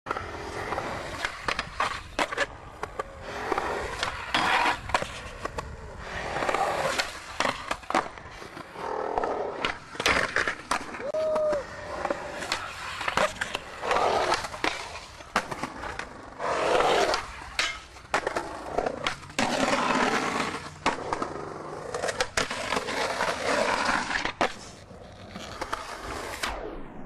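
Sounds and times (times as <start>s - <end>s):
skateboard grinding on concrete ledge: 0.1s - 26.4s
skateboard wheels rolling on concrete: 0.1s - 27.0s.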